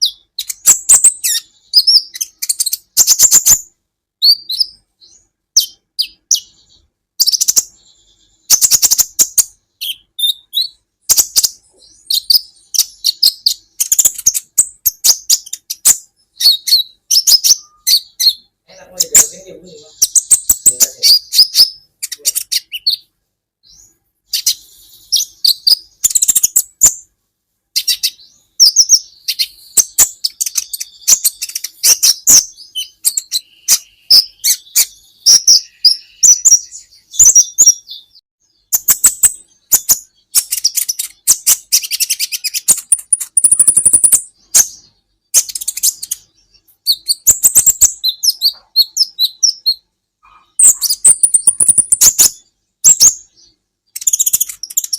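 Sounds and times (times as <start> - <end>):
sunbird chirps and trills: 0.0 - 54.9.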